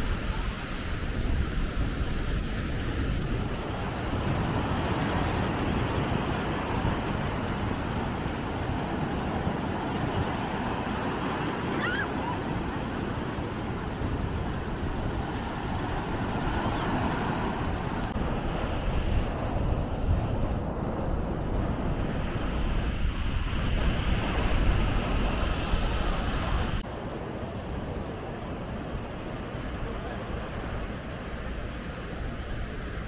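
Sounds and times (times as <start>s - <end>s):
surf washing onto beach: 0.0s - 33.0s
wind on microphone: 0.0s - 33.0s.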